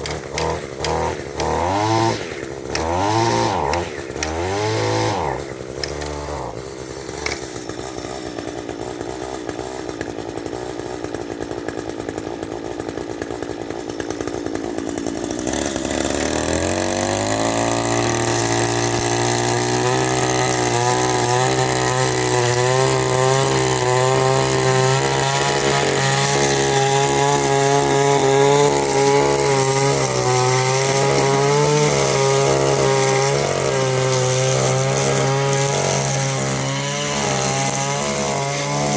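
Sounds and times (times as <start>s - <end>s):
string trimmer engine running: 0.0s - 38.9s.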